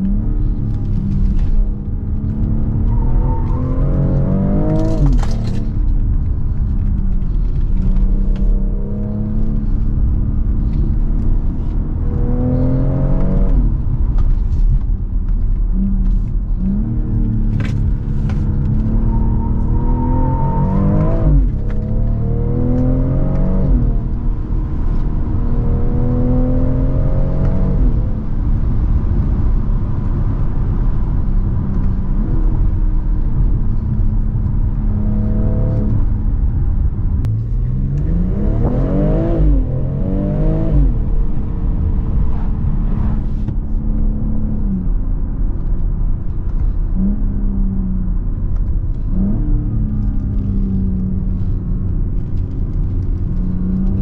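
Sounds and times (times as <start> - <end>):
car engine revving under load: 0.0 - 54.0
low road rumble: 0.0 - 54.0.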